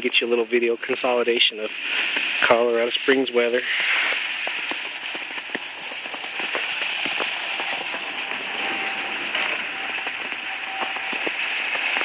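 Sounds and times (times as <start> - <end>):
wind-driven snow crackling: 0.0 - 12.0.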